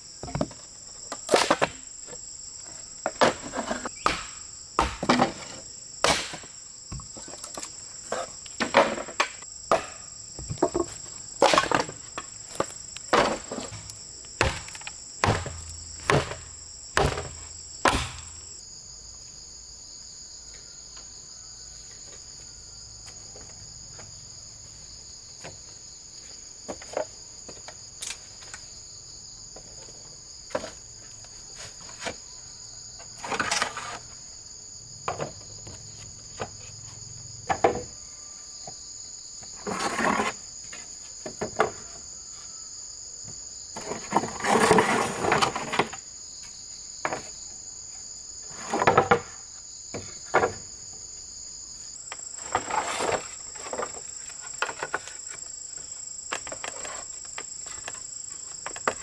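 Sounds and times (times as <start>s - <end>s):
crickets droning: 0.0s - 59.0s.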